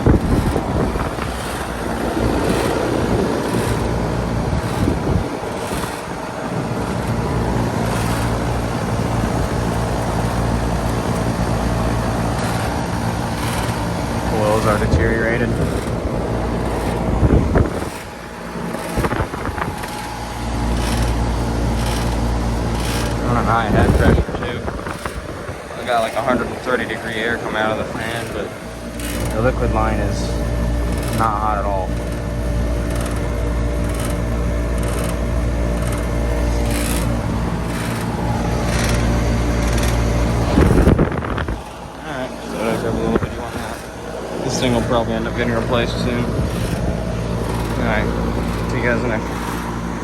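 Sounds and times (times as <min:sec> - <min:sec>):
compressor humming: 0:00.0 - 0:50.0
condenser fan rushing: 0:00.0 - 0:50.0.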